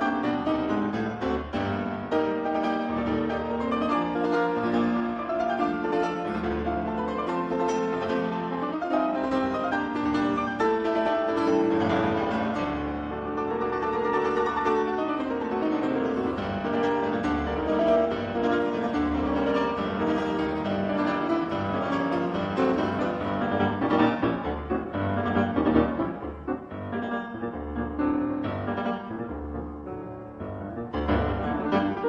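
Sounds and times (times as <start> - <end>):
classical piano music: 0.0 - 32.0.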